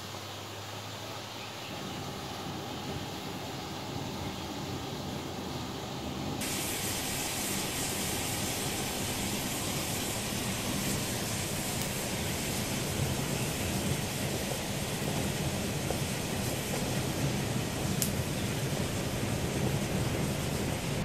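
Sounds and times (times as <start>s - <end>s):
smoke bombs hissing: 1.7s - 21.0s.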